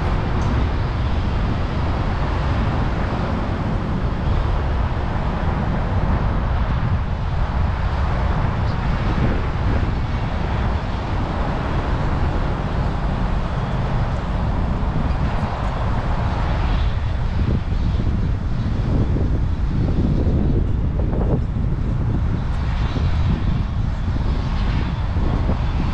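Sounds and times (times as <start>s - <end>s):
outdoor rumble: 0.0s - 25.9s
wind buffeting microphone: 0.0s - 25.9s.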